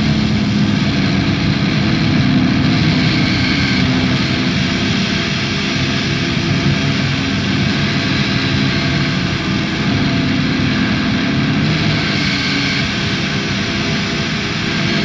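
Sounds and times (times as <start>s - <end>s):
low droning tones: 0.0s - 15.0s.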